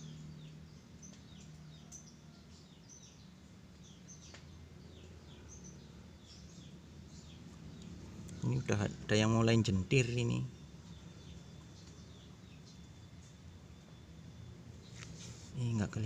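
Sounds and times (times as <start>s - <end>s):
low steady hum: 0.0s - 16.0s
small bird chirping: 0.0s - 16.0s.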